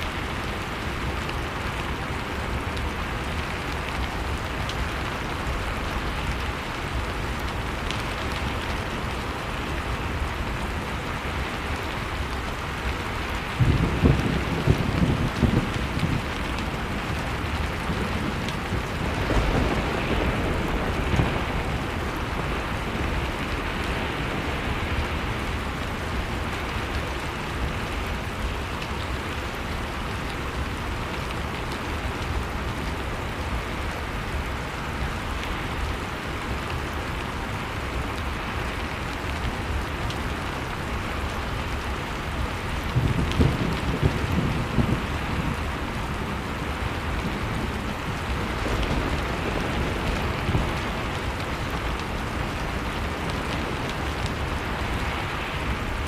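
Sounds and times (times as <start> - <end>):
blizzard wind blowing: 0.0 - 56.0
wood fire crackling: 0.0 - 56.0.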